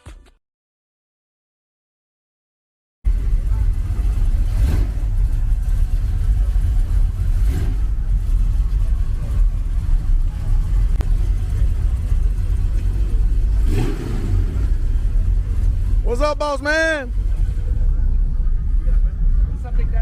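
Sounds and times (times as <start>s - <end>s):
vehicle engine rumbling: 3.0s - 20.0s.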